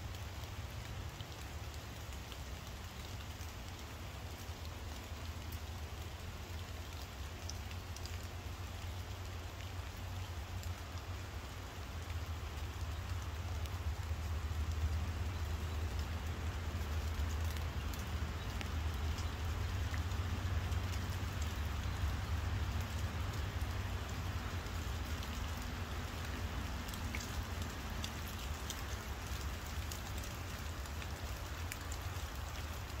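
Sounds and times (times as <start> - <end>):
light rain: 0.0 - 33.0
raindrop ticks: 0.0 - 33.0.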